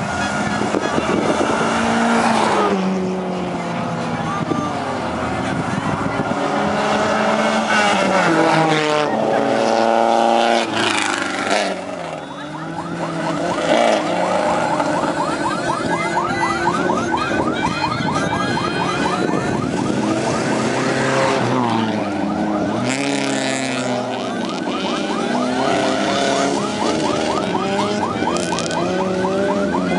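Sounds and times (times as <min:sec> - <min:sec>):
rally car engines revving past: 0:00.0 - 0:29.9.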